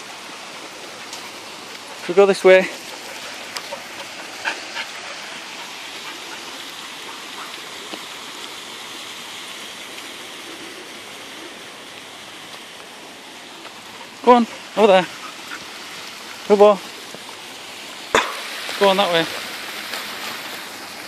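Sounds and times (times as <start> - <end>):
water rushing through channel: 0.0 - 21.0.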